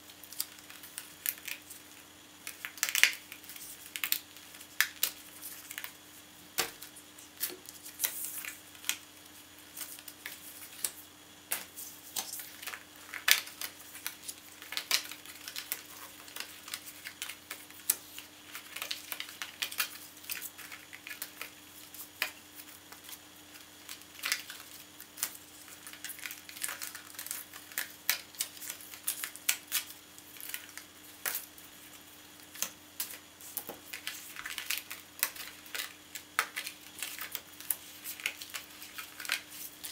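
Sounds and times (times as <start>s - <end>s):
cardstock clicking and crackling: 0.3s - 6.0s, 9.7s - 31.5s, 32.4s - 39.9s.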